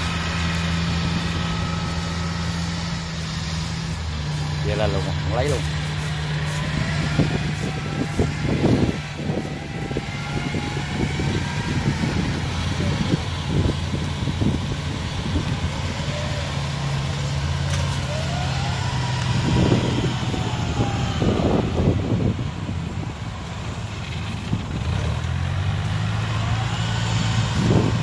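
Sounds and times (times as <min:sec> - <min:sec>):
carrier engine running: 0:00.0 - 0:28.0.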